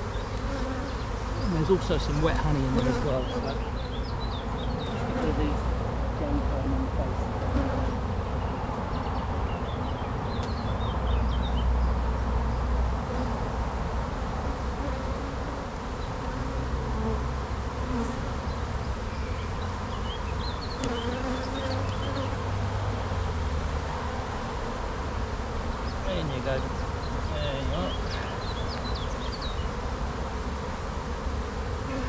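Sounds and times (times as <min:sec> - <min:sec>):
honey bees buzzing: 0:00.0 - 0:32.0.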